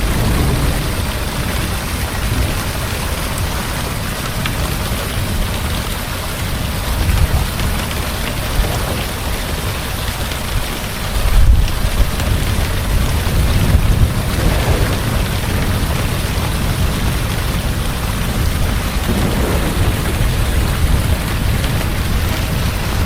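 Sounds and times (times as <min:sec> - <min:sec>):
distant thunder rumble: 0:00.0 - 0:23.0
heavy rain falling: 0:00.0 - 0:23.0.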